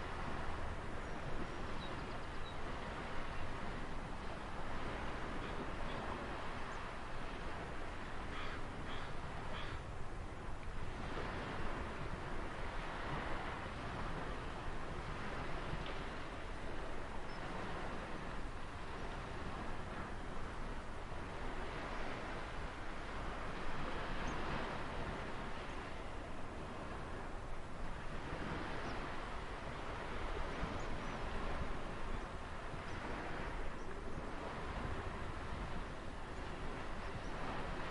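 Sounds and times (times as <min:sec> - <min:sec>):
ocean surf washing in: 0:00.0 - 0:37.9.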